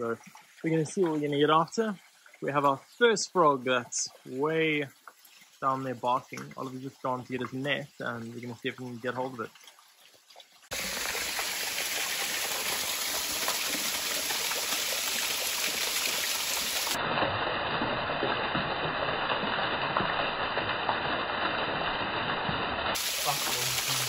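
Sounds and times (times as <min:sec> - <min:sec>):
waterfall and stream over rocks: 0:00.0 - 0:24.0.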